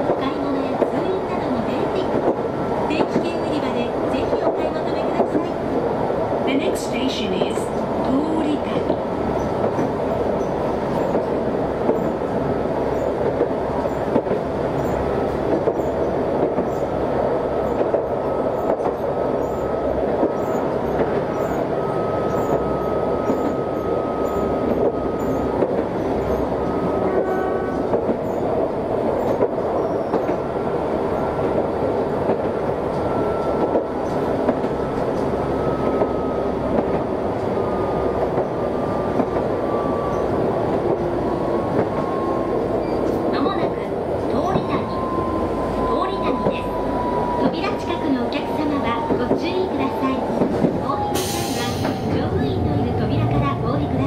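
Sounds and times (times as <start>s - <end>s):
tram wheels rumbling on rail: 0.0s - 54.0s.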